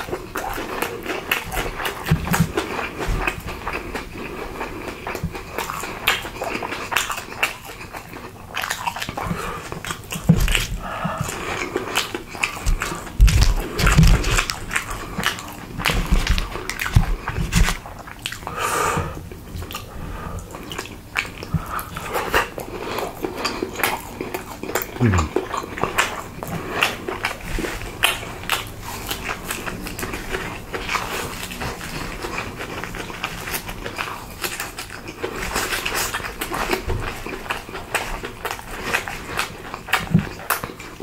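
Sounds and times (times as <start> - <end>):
chewing and biting food: 0.0 - 41.0.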